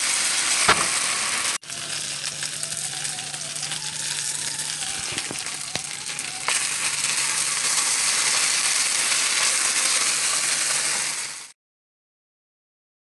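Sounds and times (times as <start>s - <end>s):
food sizzling in frying pan: 0.0s - 11.6s.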